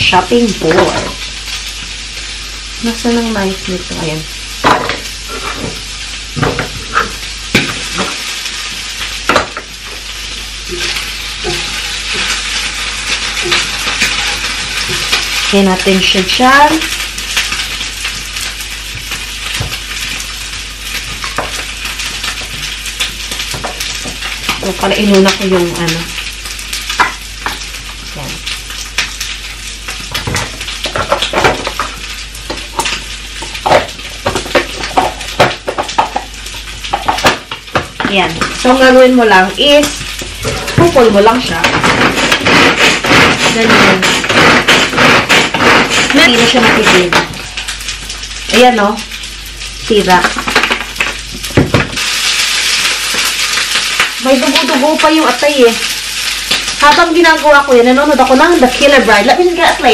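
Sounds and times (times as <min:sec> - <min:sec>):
crackles and pops: 0:00.0 - 0:59.9
food sizzling in a frying pan: 0:00.0 - 0:59.9.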